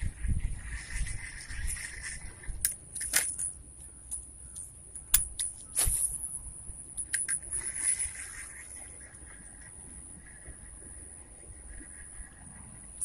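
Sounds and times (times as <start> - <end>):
fishing reel whine: 0.0 - 13.0.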